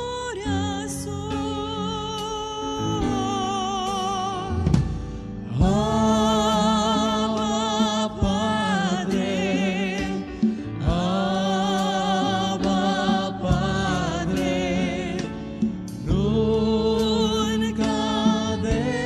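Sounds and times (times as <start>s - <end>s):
instrumental backing: 0.0s - 19.0s
person singing with vibrato: 0.0s - 19.0s.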